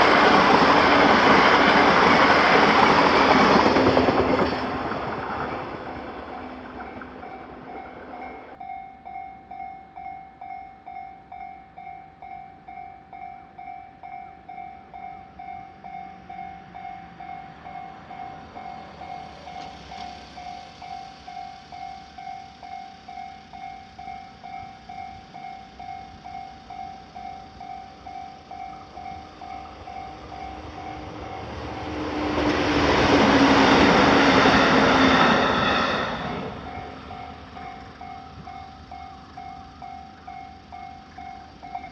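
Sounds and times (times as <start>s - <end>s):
level-crossing warning bell ringing: 0.0s - 41.9s
train passing: 0.0s - 41.9s.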